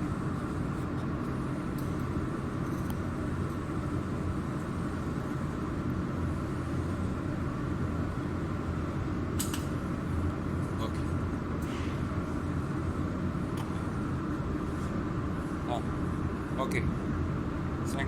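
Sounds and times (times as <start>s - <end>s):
laser welding machine humming: 0.0s - 18.0s.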